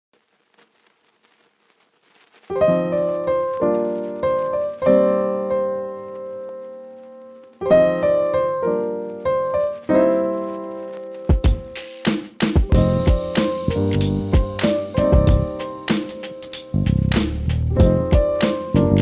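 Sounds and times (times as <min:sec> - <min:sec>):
piano chords ringing: 0:02.5 - 0:11.8, 0:12.6 - 0:19.0.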